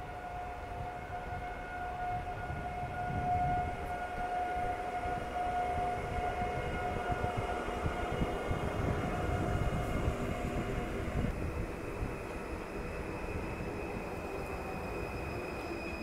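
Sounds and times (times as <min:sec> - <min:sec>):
train electrical whine: 0:00.0 - 0:16.0.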